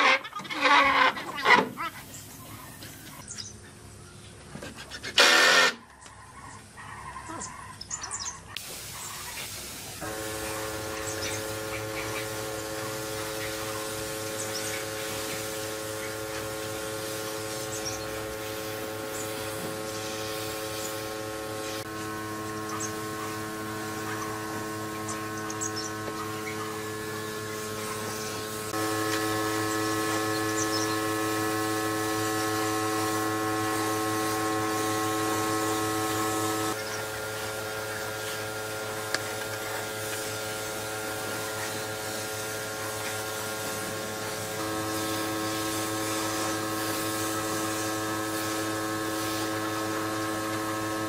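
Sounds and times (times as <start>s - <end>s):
electric motor hum: 9.9s - 51.0s.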